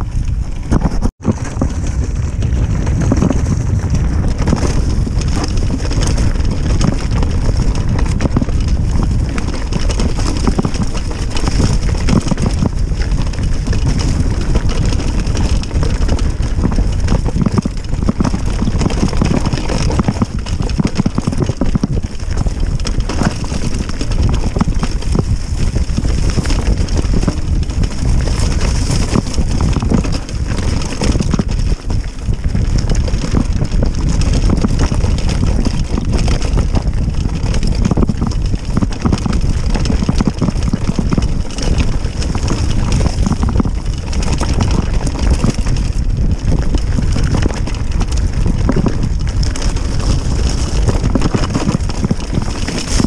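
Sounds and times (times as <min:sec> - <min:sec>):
bike knocking and rattling: 0:00.0 - 0:53.0
wind rushing over microphone: 0:00.0 - 0:53.0.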